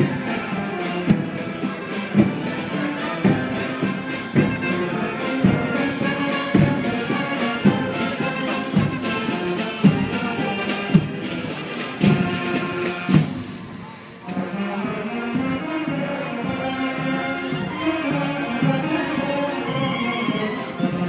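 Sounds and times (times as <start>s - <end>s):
brass notes: 0.0s - 21.0s.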